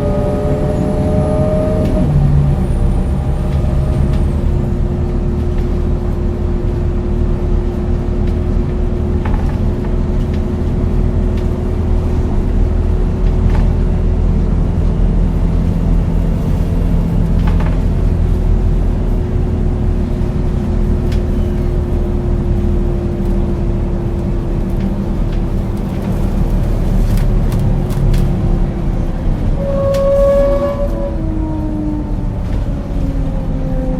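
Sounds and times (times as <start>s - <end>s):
diesel engine running: 0.0s - 30.2s.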